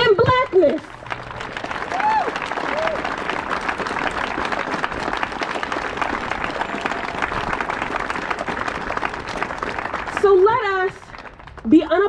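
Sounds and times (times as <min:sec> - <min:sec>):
crowd applauding: 0:00.5 - 0:12.0.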